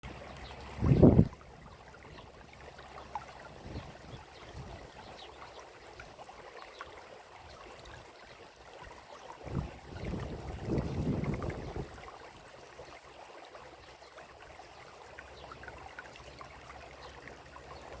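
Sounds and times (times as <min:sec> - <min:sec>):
water flowing and trickling: 0:00.0 - 0:18.0.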